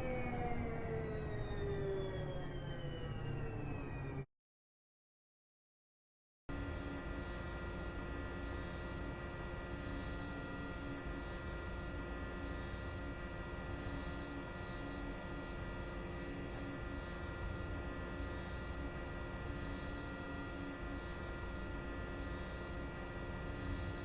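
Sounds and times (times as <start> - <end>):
steady mechanical hum: 0.0 - 4.2, 6.5 - 24.0.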